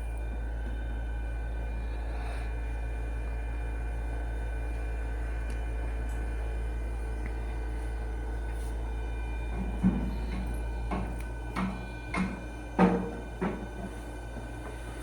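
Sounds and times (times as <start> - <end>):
sorting machine humming: 0.0 - 15.0.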